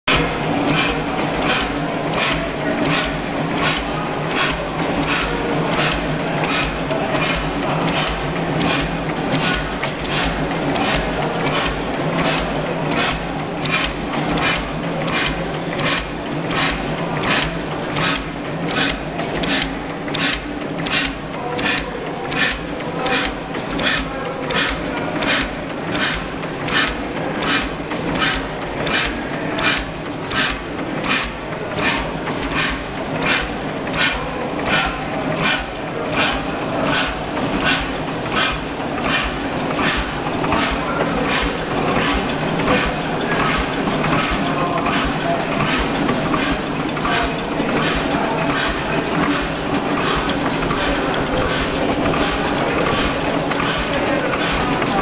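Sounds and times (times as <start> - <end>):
stationary engine clicking: 0.1 - 55.0.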